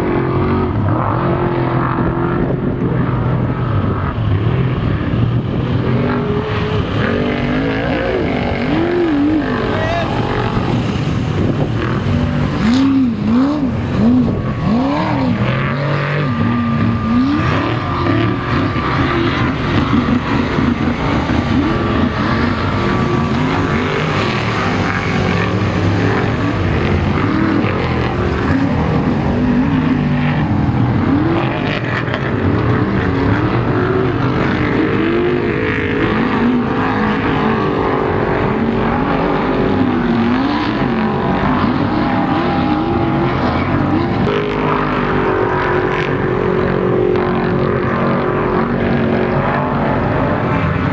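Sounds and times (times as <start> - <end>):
off-road race engines revving: 0.0 - 50.9.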